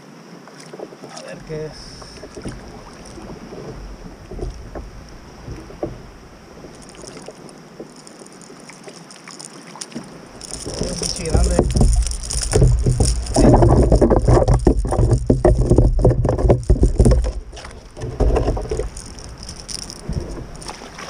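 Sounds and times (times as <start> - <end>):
water lapping against hull: 0.0 - 21.0
small knocks and clicks: 2.0 - 6.1, 6.7 - 21.0.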